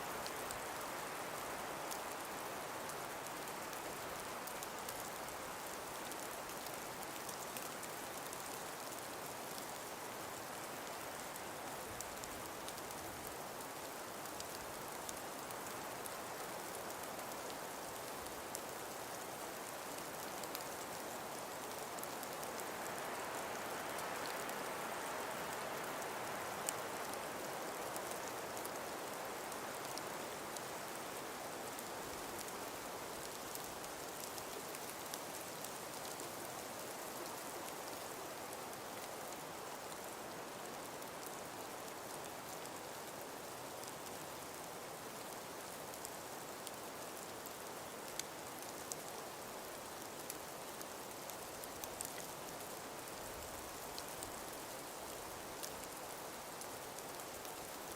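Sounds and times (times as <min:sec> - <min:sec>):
breeze through forest: 0:00.0 - 0:57.9
faint ticks: 0:00.1 - 0:57.9.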